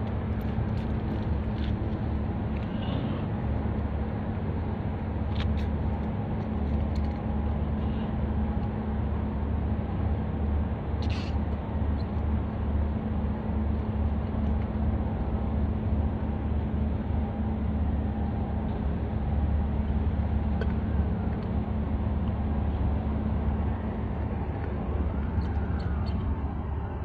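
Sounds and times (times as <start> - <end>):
constant hum: 0.0 - 27.0.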